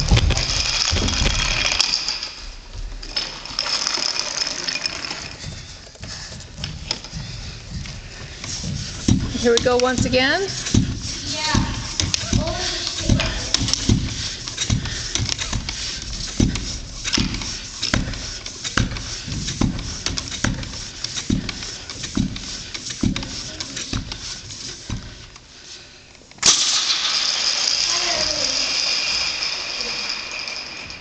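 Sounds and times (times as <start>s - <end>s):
slow regular thumps: 0.0s - 26.4s.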